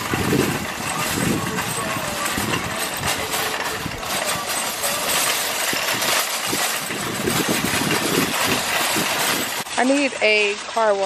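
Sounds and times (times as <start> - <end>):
low engine rumble: 0.0 - 10.4
road and wind noise: 0.0 - 10.7.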